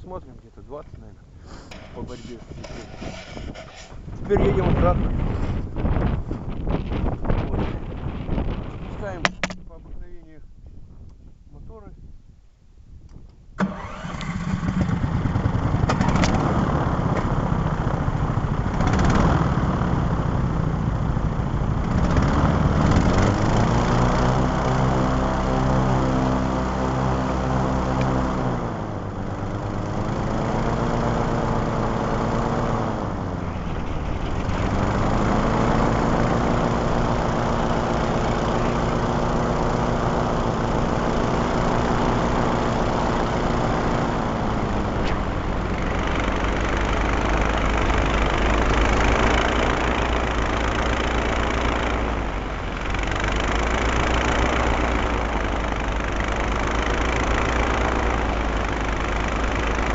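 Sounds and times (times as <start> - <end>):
airboat engines and propellers: 0.0 - 10.4, 13.6 - 59.9.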